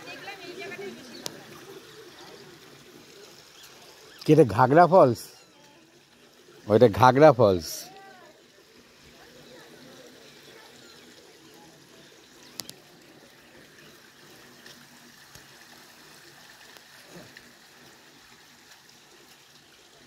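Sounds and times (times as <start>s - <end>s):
water flowing over rocks: 0.0s - 20.0s.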